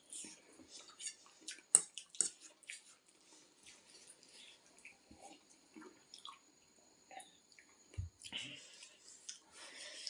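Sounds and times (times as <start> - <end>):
person chewing noodles: 0.1 - 6.4, 7.1 - 10.0.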